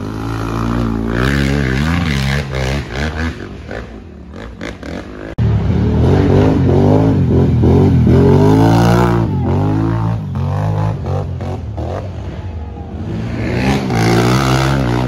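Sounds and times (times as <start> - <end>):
quad engine revving: 0.0 - 15.0.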